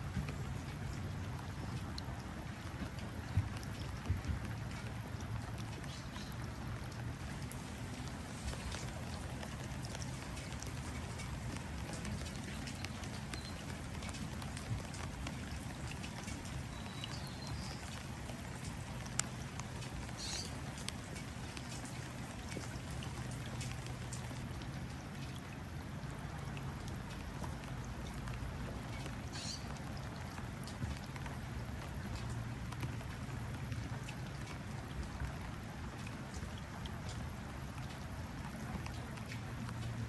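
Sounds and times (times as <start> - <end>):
raindrops tapping on water: 0.0 - 40.0.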